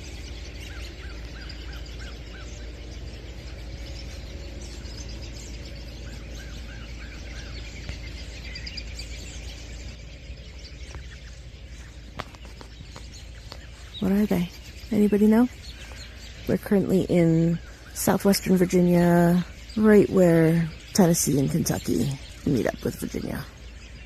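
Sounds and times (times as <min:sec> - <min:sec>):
flock of birds chattering: 0:00.0 - 0:24.0
repeated arched bird notes: 0:00.0 - 0:24.0.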